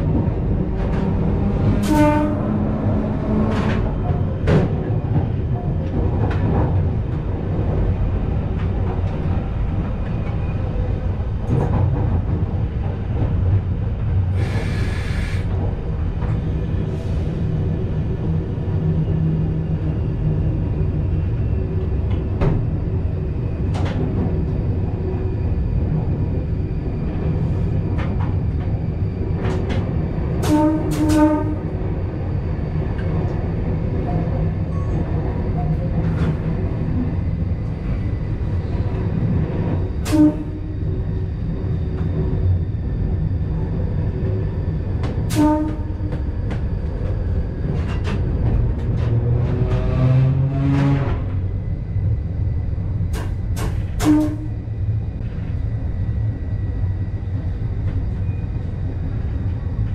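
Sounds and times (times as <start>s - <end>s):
electric train running rumble: 0.0s - 59.9s.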